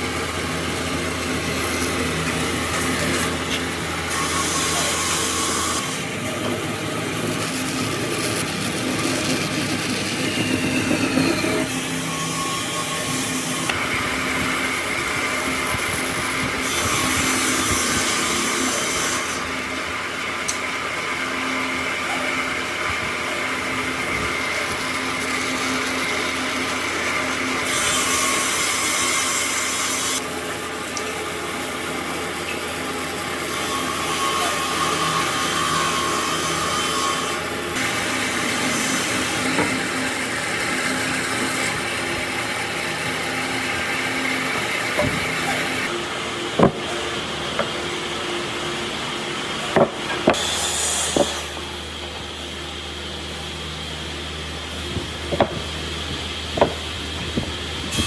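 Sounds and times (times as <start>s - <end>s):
power tool cutting wood: 0.0s - 52.3s, 54.2s - 58.0s.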